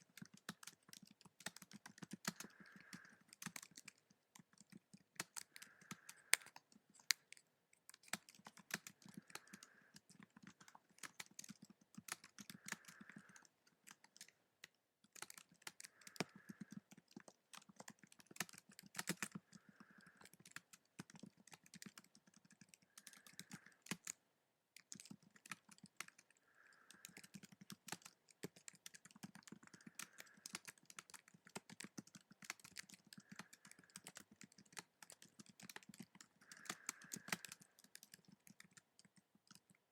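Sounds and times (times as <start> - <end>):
fast typing on keyboard: 0.0 - 24.2, 24.8 - 39.9.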